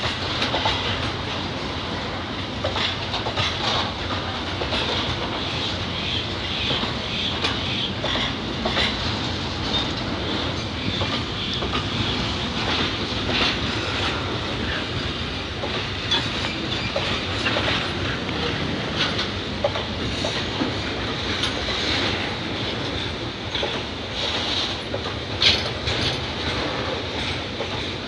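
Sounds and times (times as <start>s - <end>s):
wheels clicking over rail joints: 0.0s - 5.6s, 6.6s - 28.0s
steel wheels rolling on rail: 0.0s - 28.0s.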